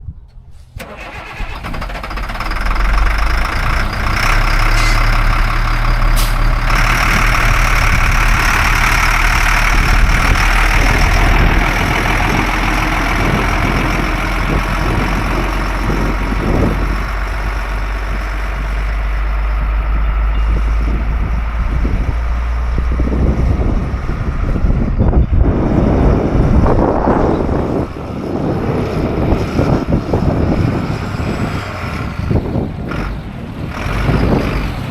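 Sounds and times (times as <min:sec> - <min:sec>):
diesel engine starting and idling: 0:00.2 - 0:34.9.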